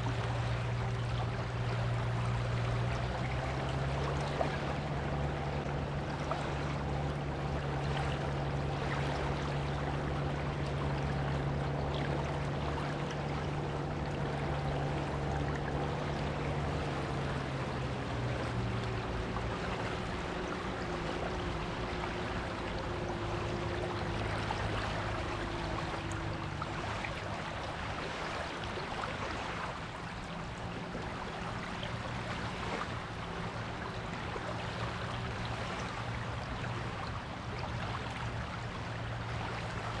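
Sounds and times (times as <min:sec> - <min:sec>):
low engine drone: 0:00.0 - 0:40.0
surf washing on a beach: 0:00.0 - 0:40.0.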